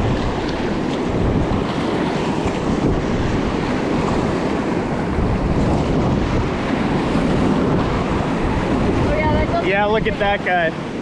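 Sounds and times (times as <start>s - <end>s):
whitewater rushing: 0.0s - 11.0s
wind buffeting microphone: 0.0s - 11.0s.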